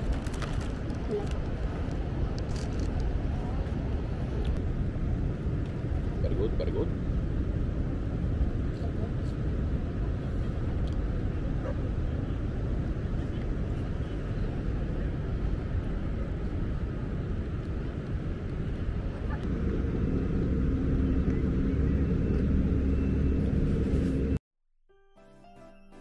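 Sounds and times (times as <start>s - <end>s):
low outdoor rumble: 0.0s - 24.4s.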